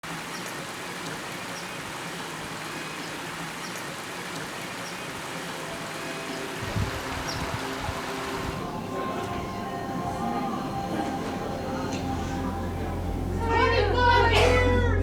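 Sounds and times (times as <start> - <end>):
steady rain: 0.0 - 13.4.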